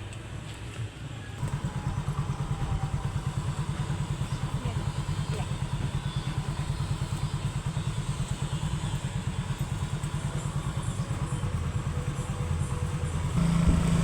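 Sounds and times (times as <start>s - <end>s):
motorcycle engine running: 1.4s - 14.0s.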